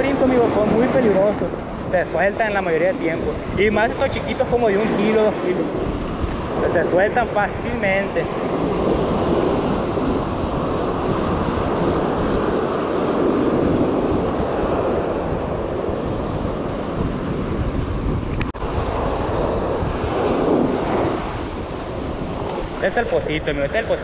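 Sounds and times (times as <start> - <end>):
ocean surf breaking on sand: 0.0 - 24.0
wind buffeting microphone: 0.0 - 24.0.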